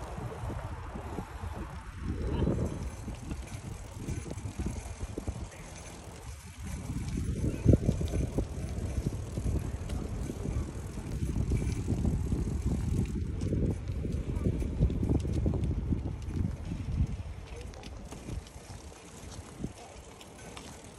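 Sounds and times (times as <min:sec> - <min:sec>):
bike rolling over paving: 0:00.0 - 0:20.9
wind buffeting microphone: 0:00.0 - 0:20.9.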